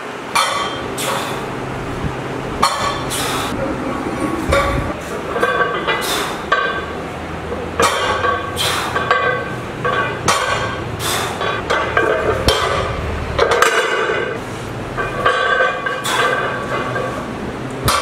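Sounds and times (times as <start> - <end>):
weight plates clanking: 0.3 - 1.5, 2.6 - 18.0.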